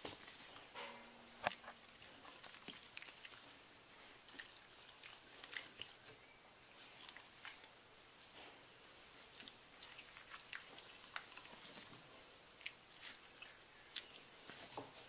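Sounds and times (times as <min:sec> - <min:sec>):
dogs mouthing and nibbling: 0:00.0 - 0:15.0.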